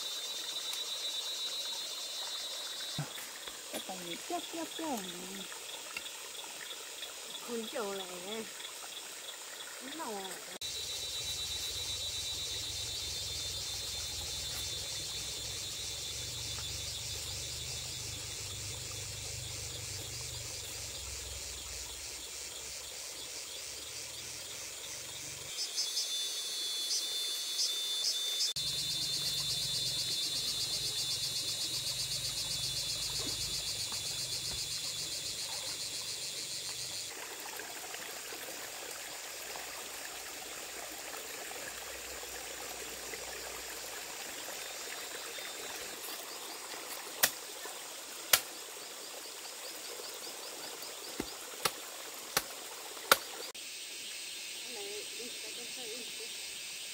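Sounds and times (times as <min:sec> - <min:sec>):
insects trilling: 0:00.0 - 0:56.9.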